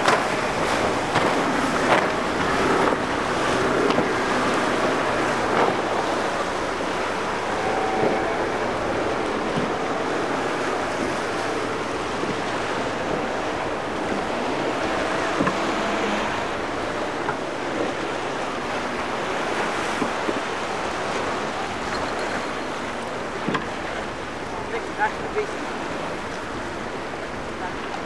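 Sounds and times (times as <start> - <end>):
outboard motor running: 0.0 - 28.0
waves breaking: 0.0 - 28.0
wind on microphone: 0.0 - 28.0.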